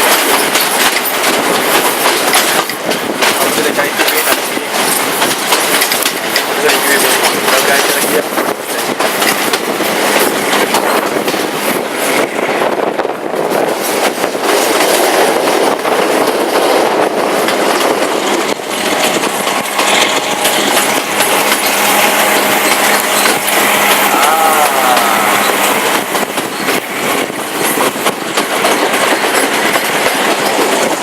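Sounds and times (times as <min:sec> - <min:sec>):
wheels clicking over rail joints: 0:00.0 - 0:12.4, 0:13.4 - 0:31.0
train coaches rumbling and rattling: 0:00.0 - 0:31.0.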